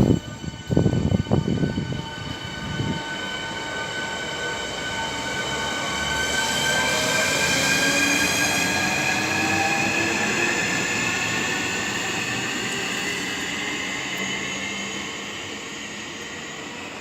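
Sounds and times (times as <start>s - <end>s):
electric train whining: 0.0s - 17.0s.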